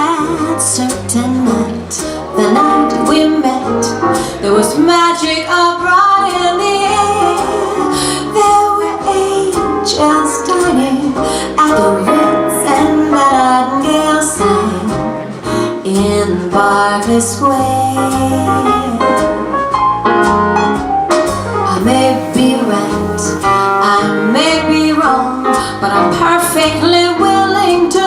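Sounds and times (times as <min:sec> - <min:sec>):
woman singing: 0:00.0 - 0:19.5, 0:21.7 - 0:28.0
jazz band playing: 0:00.0 - 0:28.0.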